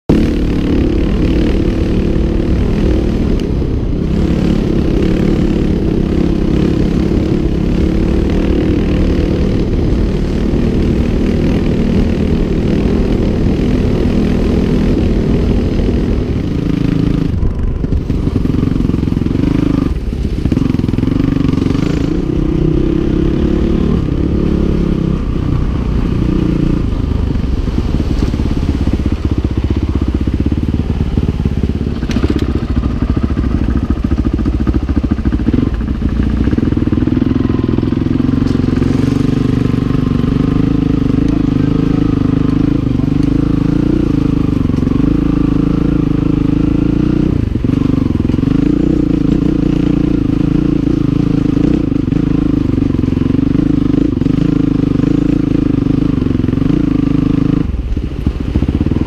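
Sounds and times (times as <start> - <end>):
dirt bike engine revving: 0.1 - 59.0
wind noise on microphone: 0.1 - 59.0.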